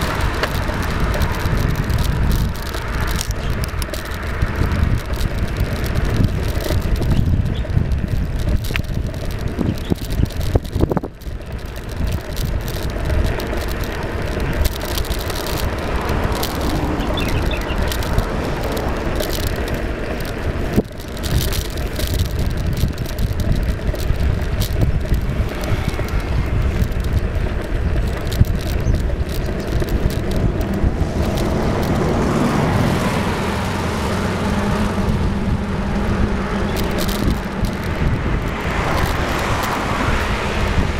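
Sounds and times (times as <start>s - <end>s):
vehicle rumble and rattling: 0.0s - 40.9s
wind buffeting microphone: 0.0s - 40.9s.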